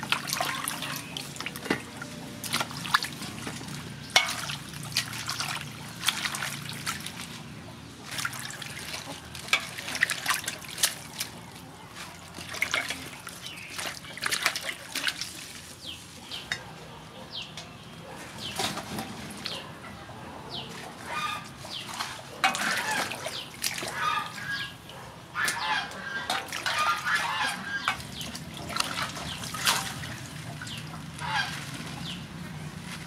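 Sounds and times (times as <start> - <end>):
water sloshing in a basin: 0.0 - 33.0.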